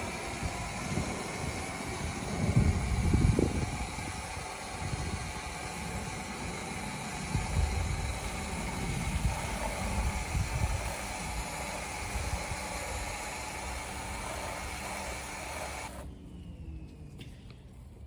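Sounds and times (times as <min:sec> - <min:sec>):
pressure washer spray hissing: 0:00.0 - 0:16.0.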